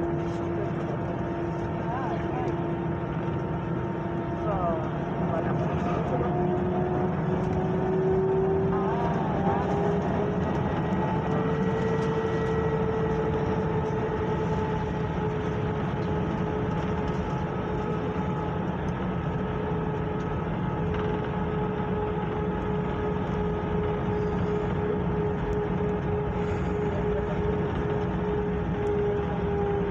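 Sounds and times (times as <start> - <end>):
airliner cabin engine hum: 0.0 - 29.9
steady whine: 0.0 - 29.9.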